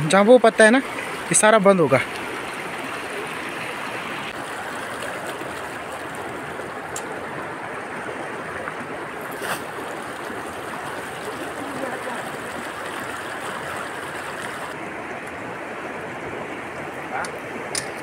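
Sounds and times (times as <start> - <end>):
river rushing over stones: 0.1 - 18.0.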